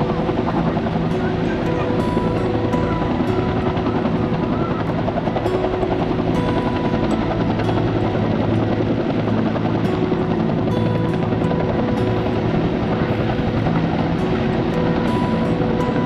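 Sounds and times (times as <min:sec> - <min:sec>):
helicopter rotor chop: 0:00.0 - 0:16.0
helicopter whine: 0:00.0 - 0:16.0.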